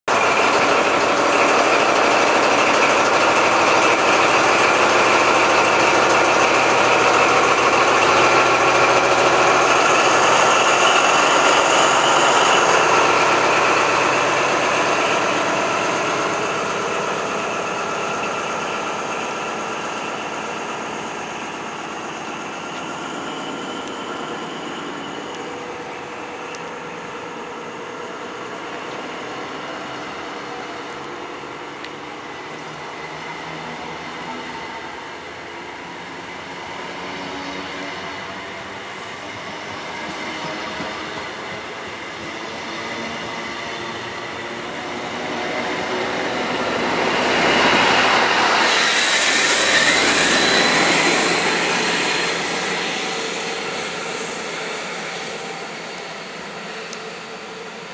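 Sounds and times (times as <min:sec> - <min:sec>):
diesel train engine accelerating: 0:00.1 - 0:57.9.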